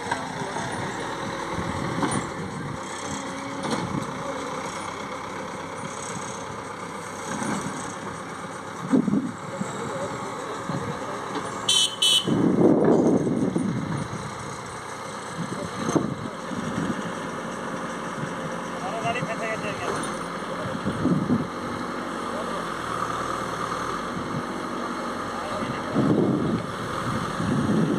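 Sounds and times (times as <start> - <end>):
diesel machinery running: 0.0 - 27.9.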